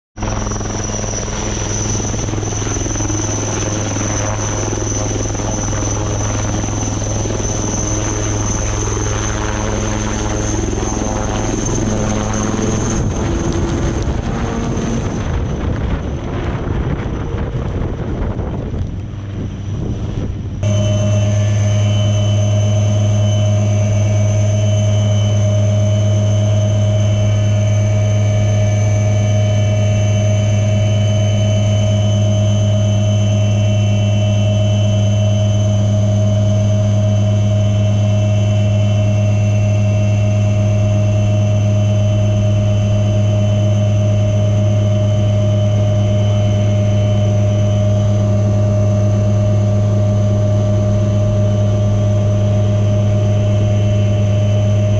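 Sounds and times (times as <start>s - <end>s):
helicopter rotor and turbine drone: 0.2s - 54.9s.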